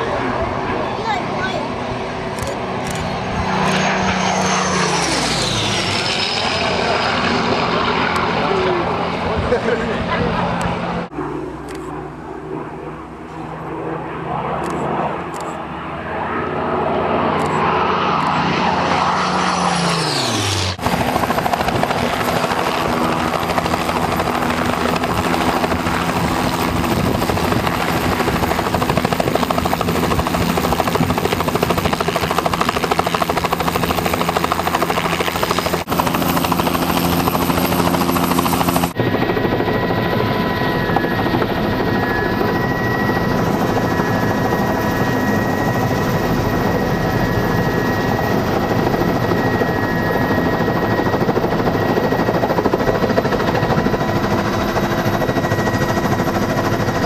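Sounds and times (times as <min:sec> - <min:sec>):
helicopter rotor beat: 0:00.0 - 0:57.0
high turbine whine: 0:00.0 - 0:57.0.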